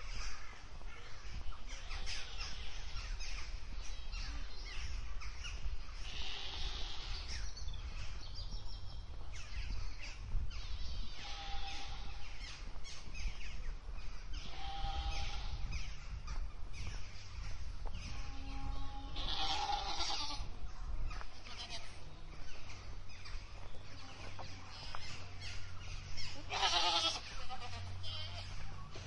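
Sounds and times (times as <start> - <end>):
birds chirping: 0.0 - 29.0
low outdoor rumble: 0.0 - 29.0.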